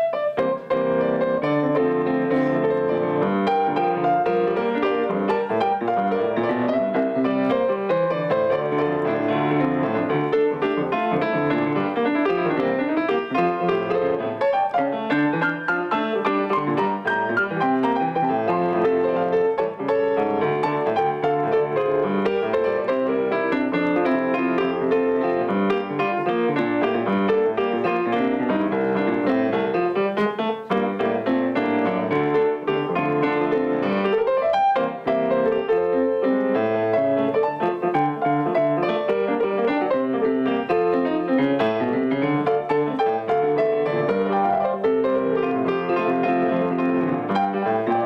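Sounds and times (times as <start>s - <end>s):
grand piano playing: 0.0s - 48.0s.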